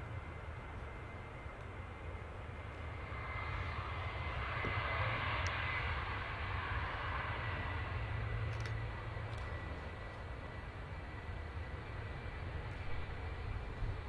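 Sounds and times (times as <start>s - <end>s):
jet engines rushing: 0.0s - 14.0s
thin steady whine: 0.0s - 14.0s.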